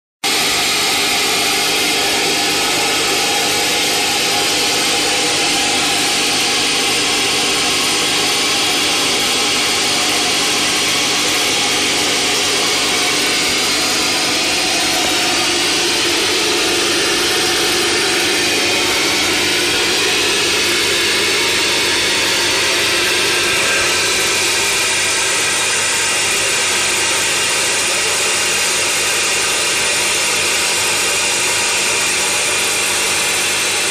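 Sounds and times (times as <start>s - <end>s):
plasma torch hissing: 0.3s - 27.6s.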